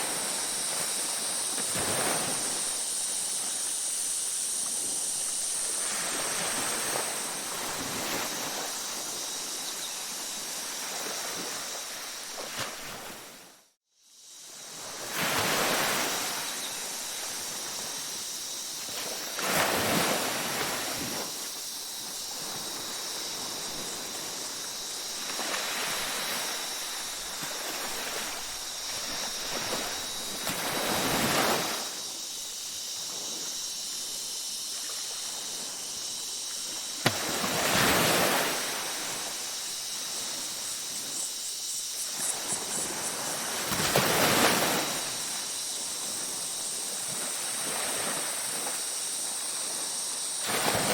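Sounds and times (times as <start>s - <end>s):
waves breaking on a beach: 0.0s - 13.6s, 14.4s - 50.9s.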